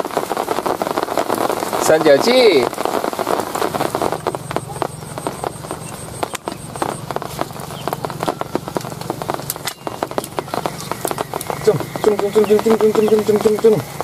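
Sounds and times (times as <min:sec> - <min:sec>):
rain falling: 0:00.0 - 0:14.0
raindrops ticking on surface: 0:00.0 - 0:14.0.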